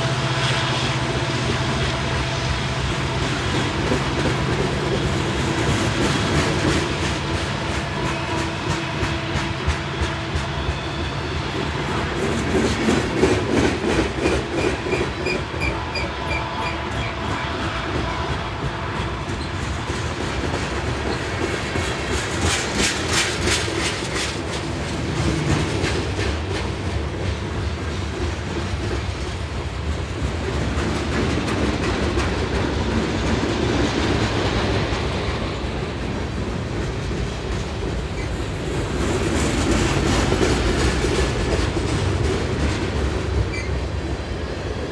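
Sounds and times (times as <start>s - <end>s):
clickety-clack over rail joints: 0.0s - 44.9s
train wheels rumbling on rail: 0.0s - 44.9s.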